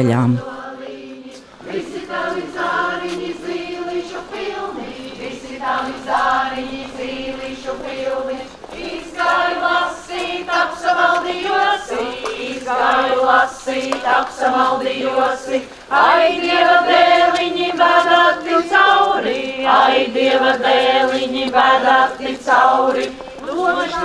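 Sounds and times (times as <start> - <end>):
group singing folk song: 0.4 - 24.0.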